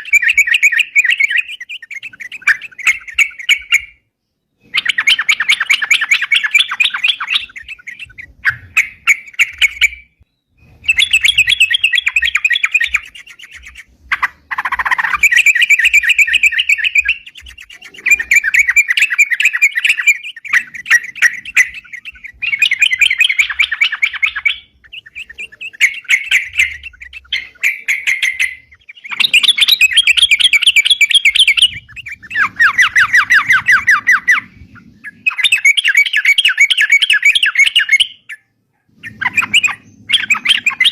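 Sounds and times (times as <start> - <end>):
bulbul chattering chirps: 0.0 - 40.9.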